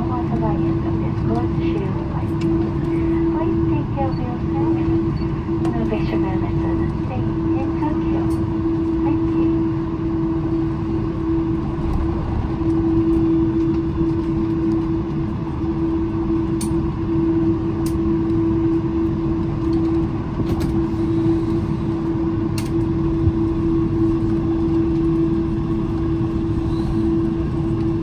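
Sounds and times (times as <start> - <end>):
jet engine rumble in cabin: 0.0 - 28.0.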